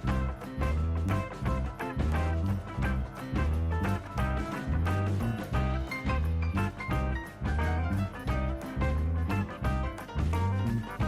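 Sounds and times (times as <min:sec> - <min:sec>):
swing background music: 0:00.0 - 0:11.0.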